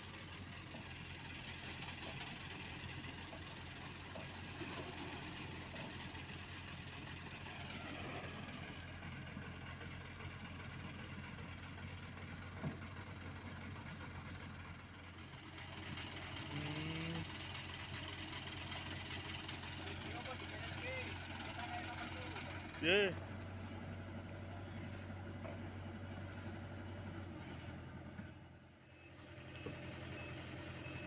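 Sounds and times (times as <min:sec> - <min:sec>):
diesel paving machinery running: 0:00.0 - 0:31.0.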